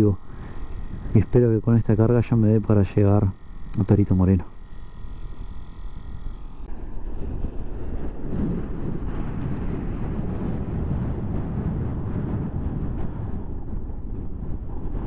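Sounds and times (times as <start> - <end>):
wind buffeting microphone: 0.0 - 2.6, 4.7 - 15.0.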